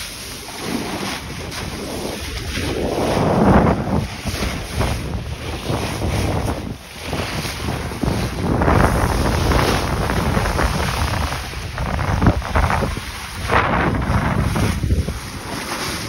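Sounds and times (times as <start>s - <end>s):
sea splashing along boat bow: 0.0s - 16.0s
wind buffeting microphone: 0.0s - 16.0s.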